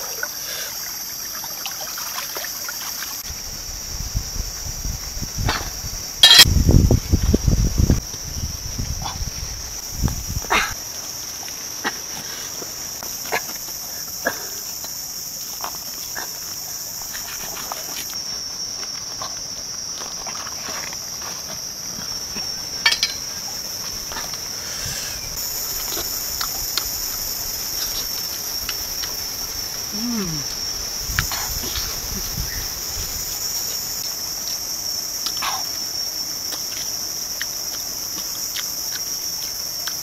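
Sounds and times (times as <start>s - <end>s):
insect chorus buzzing: 0.0s - 40.0s.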